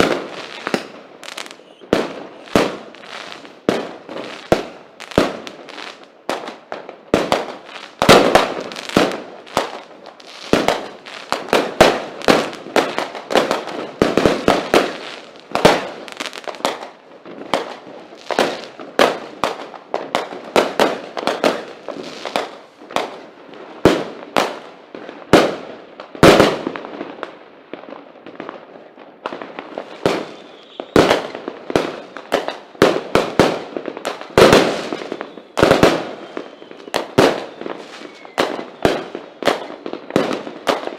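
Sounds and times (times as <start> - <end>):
firework bangs: 0.0 - 40.9.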